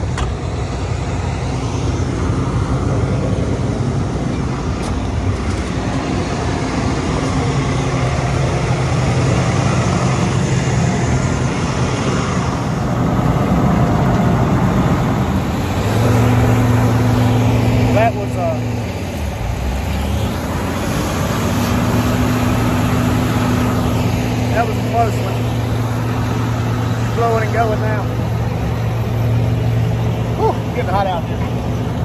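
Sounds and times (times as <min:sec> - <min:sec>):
combine harvester engine drone: 0:00.0 - 0:32.0.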